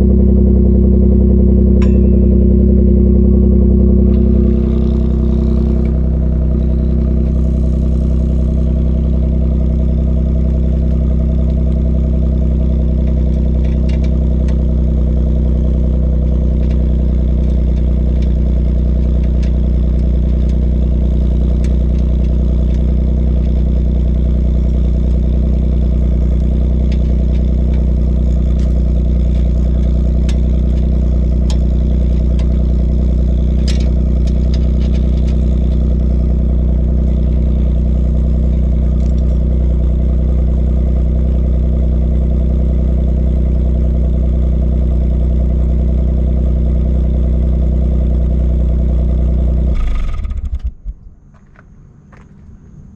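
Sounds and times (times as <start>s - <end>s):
car engine idling: 0.0s - 52.9s
car engine shutting off: 0.0s - 52.9s.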